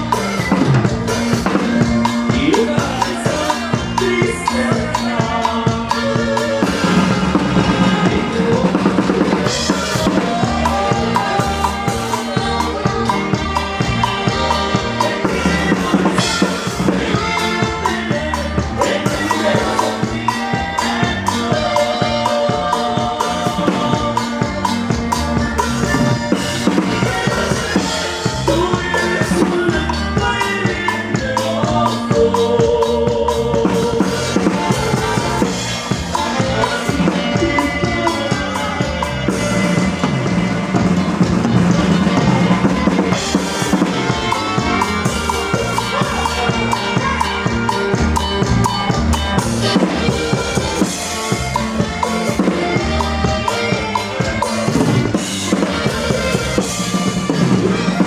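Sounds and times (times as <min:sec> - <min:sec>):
drum kit beat: 0:00.0 - 0:58.0
live band instrumental: 0:00.0 - 0:58.0.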